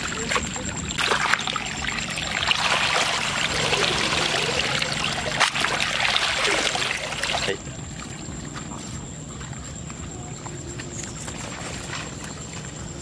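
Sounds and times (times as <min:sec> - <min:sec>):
water trickling and dripping: 0:00.0 - 0:10.5.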